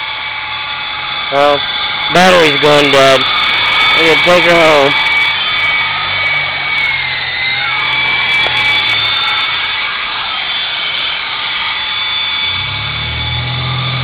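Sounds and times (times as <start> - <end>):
rc helicopter motor whining: 0.0 - 14.0.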